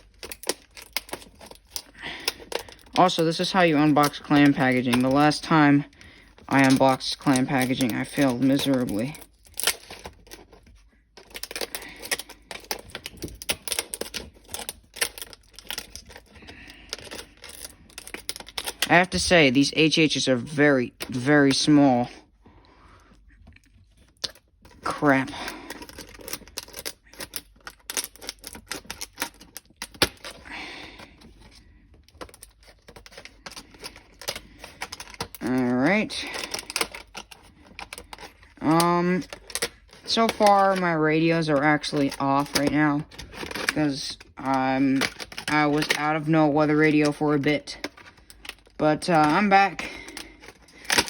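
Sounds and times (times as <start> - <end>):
plastic packaging clicking and crackling: 0.0 - 51.0.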